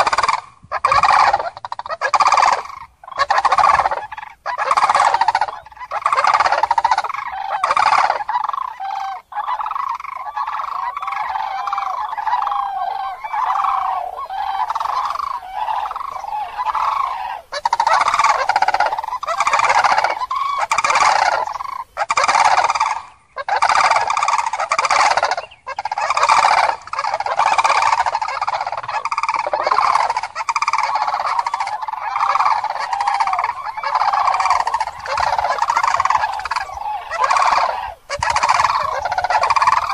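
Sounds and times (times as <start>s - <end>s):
cranes trumpeting calls: 0.0s - 39.9s.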